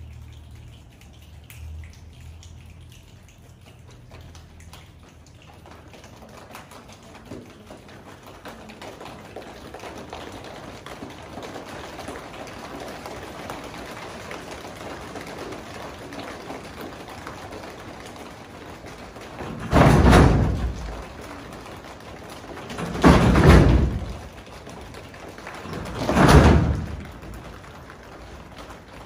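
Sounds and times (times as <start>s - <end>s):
rain patter: 0.0s - 29.0s.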